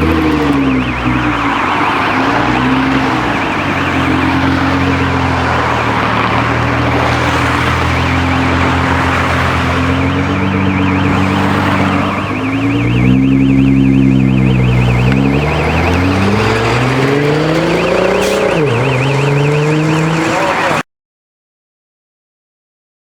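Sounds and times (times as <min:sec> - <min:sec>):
car engine revving: 0:00.0 - 0:20.8
high warbling tone: 0:00.0 - 0:20.8.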